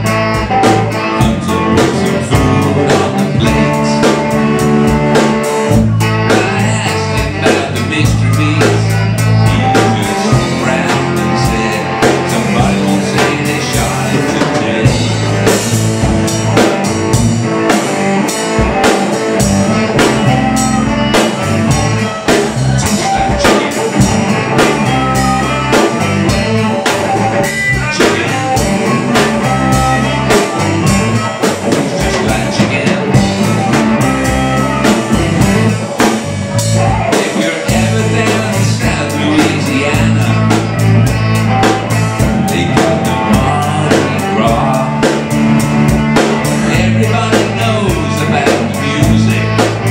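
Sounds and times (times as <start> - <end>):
drum kit beat: 0.0 - 49.9
electric guitars: 0.0 - 49.9.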